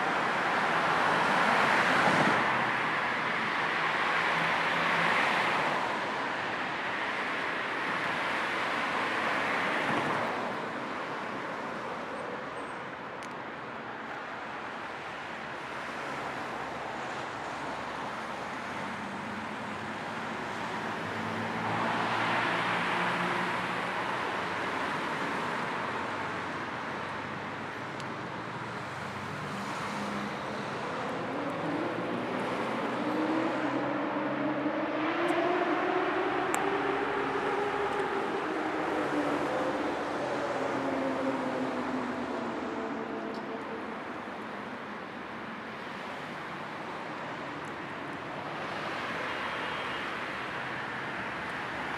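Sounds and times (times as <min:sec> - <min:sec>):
car road noise: 0:00.0 - 0:51.9.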